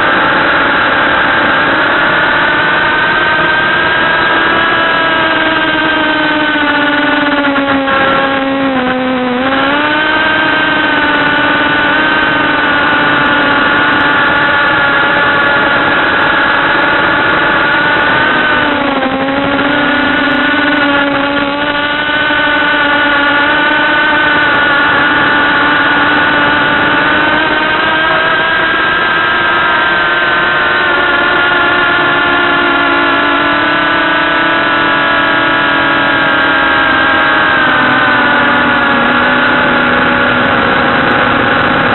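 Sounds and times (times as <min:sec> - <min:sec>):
drone propellers whining: 0:00.0 - 0:41.9.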